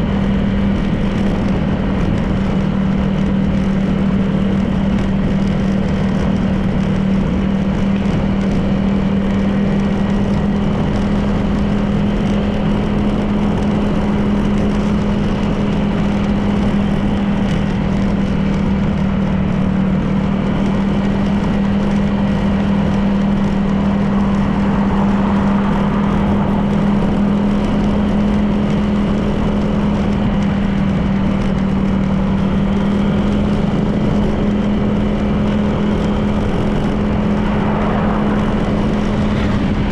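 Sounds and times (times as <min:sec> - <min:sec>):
road noise: 0:00.0 - 0:39.9
scooter engine humming: 0:00.0 - 0:39.9
wind noise: 0:00.0 - 0:39.9.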